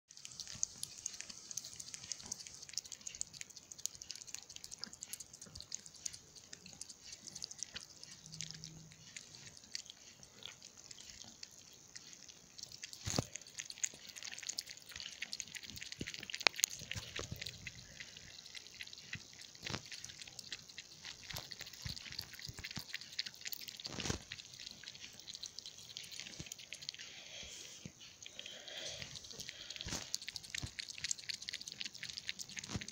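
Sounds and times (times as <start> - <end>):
kittens lapping milk: 0.1 - 32.9.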